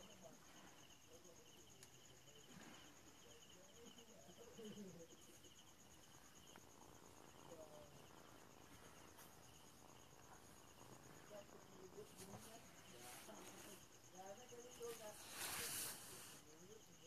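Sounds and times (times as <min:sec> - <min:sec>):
high pulsing insect trill: 0:00.0 - 0:17.0.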